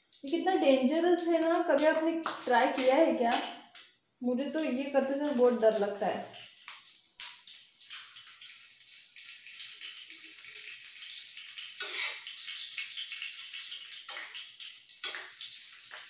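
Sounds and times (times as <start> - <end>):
chillies sizzling in oil: 0.0 - 16.0.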